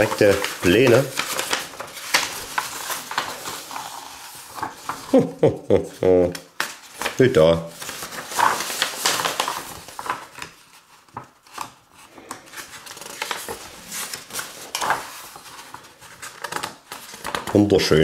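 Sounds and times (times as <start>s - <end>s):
paper sheets rustling: 0.0s - 18.0s.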